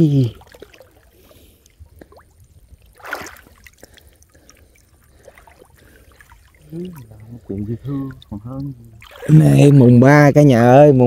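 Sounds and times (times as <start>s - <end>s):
splashes of wading: 0.0s - 10.1s
water lapping: 0.0s - 10.2s.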